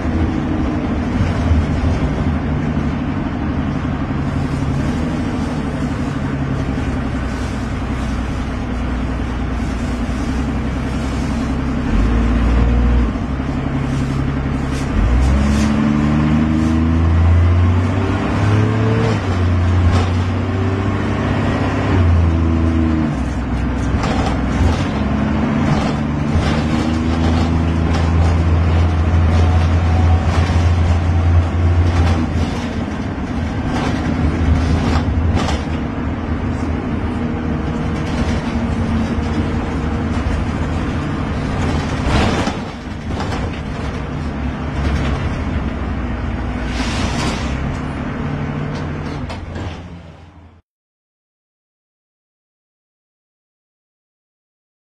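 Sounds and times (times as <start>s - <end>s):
bus engine revving: 0.0s - 50.6s.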